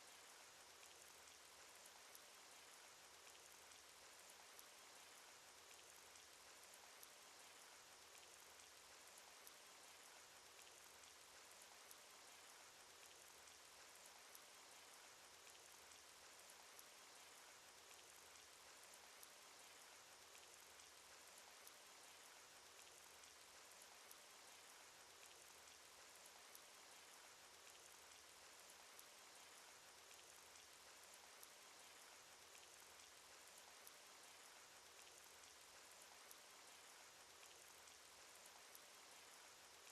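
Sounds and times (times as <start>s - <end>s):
soft hiss of rainfall: 0.0s - 39.9s.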